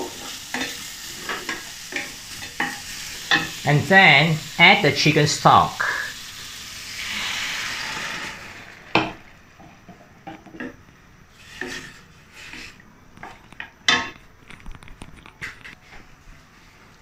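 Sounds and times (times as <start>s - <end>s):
liquid sizzling in hot pan: 0.0s - 14.3s.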